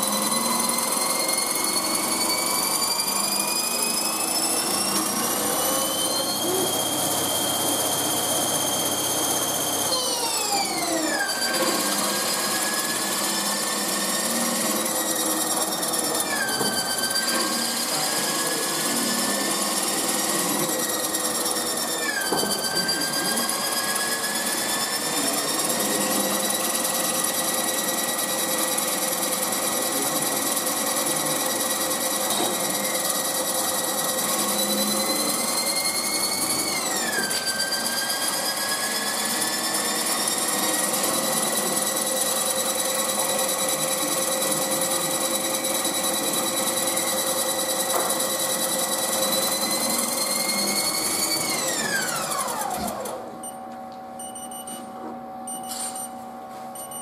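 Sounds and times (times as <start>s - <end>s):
lathe spindle whine: 0.0s - 53.7s.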